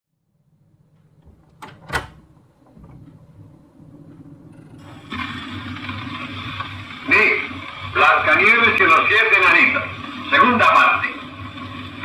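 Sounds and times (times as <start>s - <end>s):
low steady hum: 0.2s - 12.0s.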